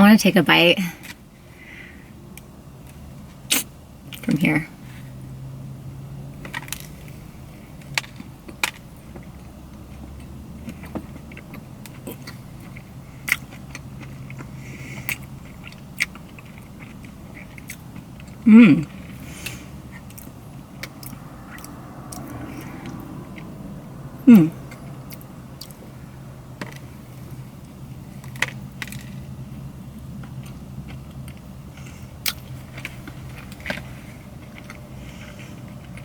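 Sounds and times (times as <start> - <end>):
person chewing soft food: 6.4 - 36.0.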